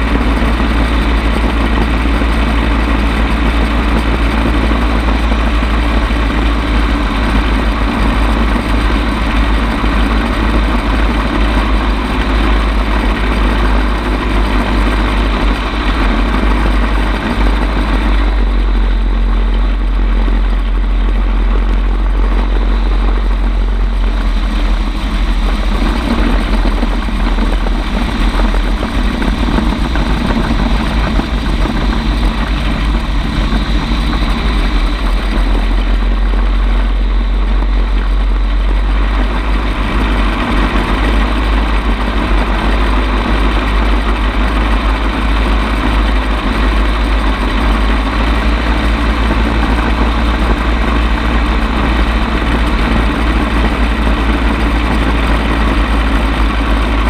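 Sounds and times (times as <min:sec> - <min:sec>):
gyrocopter engine and propeller: 0:00.0 - 0:57.0
wind buffeting microphone: 0:00.0 - 0:57.0.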